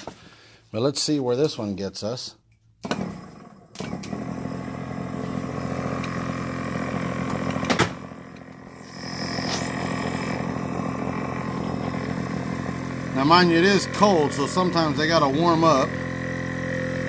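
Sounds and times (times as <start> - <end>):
air compressor motor hum: 2.8 - 17.0.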